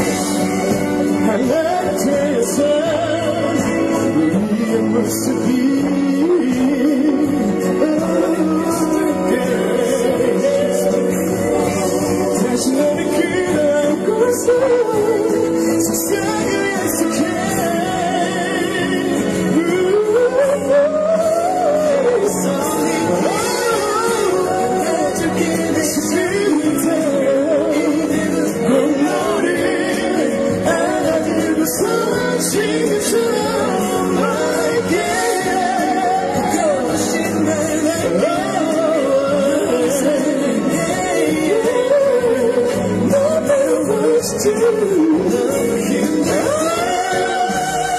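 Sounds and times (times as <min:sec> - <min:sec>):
amplified backing music with beat: 0:00.0 - 0:47.9
man singing into a microphone: 0:00.0 - 0:47.9.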